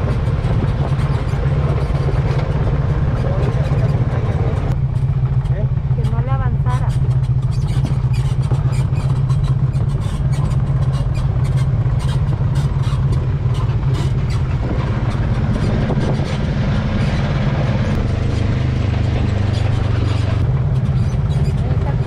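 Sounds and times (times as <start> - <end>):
knocks and rattles: 0.0 - 22.0
off-road vehicle engine running: 0.0 - 22.0.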